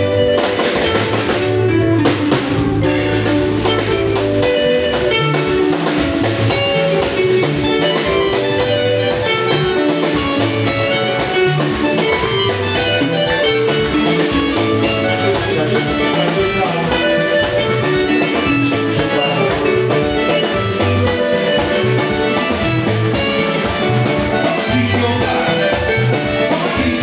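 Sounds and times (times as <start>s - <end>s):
live band playing: 0.0s - 27.0s.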